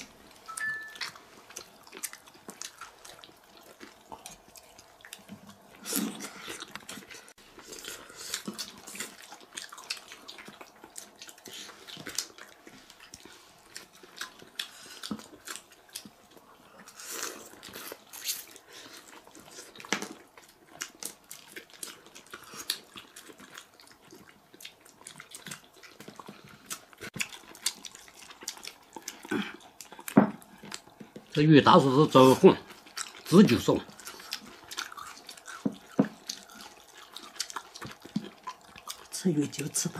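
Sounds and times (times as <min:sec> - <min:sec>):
people chewing and lip-smacking: 0:00.0 - 0:39.9.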